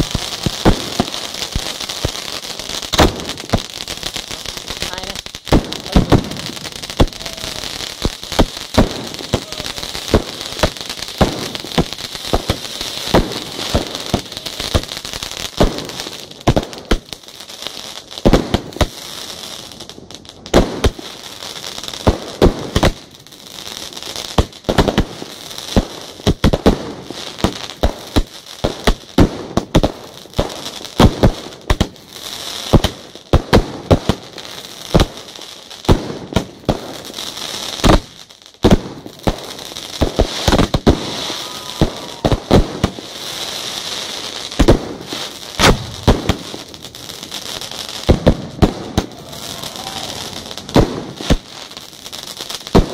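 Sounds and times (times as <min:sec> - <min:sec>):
fireworks bangs: 0:00.0 - 0:19.8, 0:20.5 - 0:23.1, 0:24.3 - 0:32.0, 0:37.8 - 0:52.9
crackling hiss: 0:00.0 - 0:52.9.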